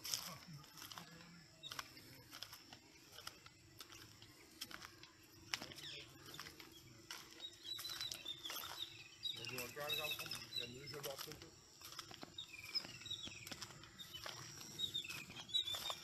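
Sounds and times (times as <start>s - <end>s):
footsteps on dry ground: 0.0s - 16.0s
high bird chirps: 1.6s - 16.0s.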